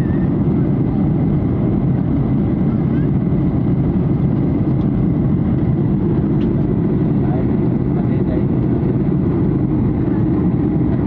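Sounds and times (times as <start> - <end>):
aircraft rumble: 0.0 - 11.0.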